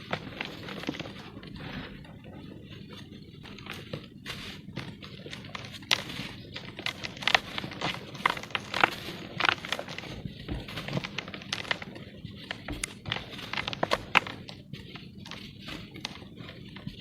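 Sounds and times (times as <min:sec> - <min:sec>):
cement lumps crumbling: 0:00.0 - 0:02.2, 0:03.5 - 0:17.0.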